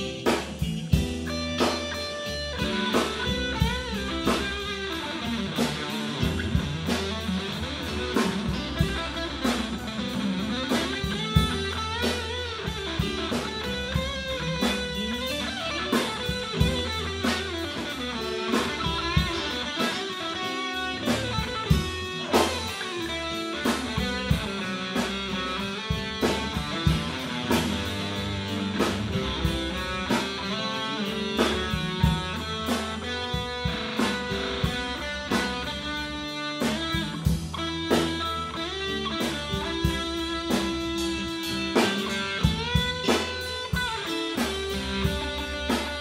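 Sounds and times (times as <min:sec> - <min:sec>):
guitar-led instrumental music: 0:00.0 - 0:46.0
steady drum beat: 0:00.0 - 0:46.0.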